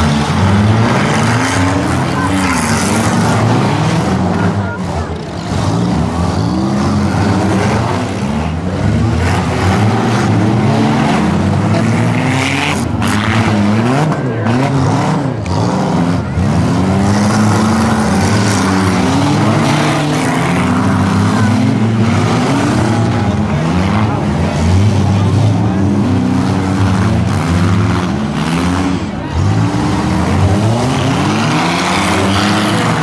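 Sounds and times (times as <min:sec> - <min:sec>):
car engines revving hard: 0:00.0 - 0:33.0.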